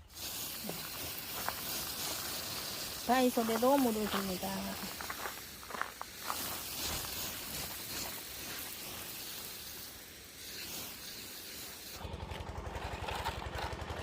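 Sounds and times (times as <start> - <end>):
water spraying hiss: 0.0 - 12.2.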